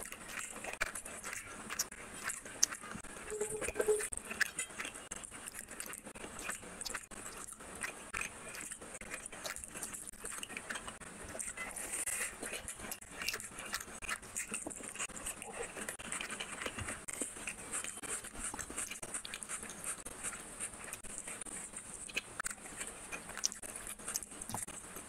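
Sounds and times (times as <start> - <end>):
chewing: 0.0 - 25.0.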